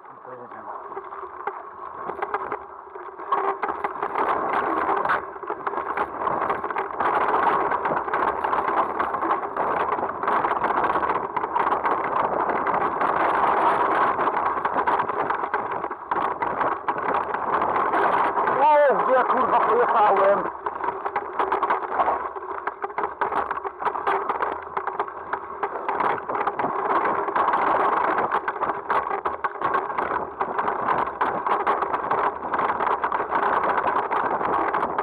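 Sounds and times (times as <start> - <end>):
steady rush of noise: 0.0 - 35.0
mountain bike rattling: 0.3 - 35.0.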